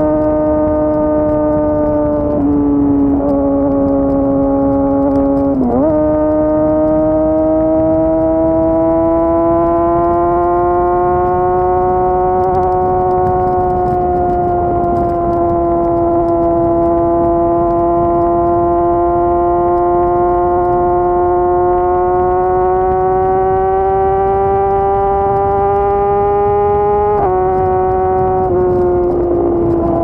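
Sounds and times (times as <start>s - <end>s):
motorcycle engine at high revs: 0.0s - 30.0s.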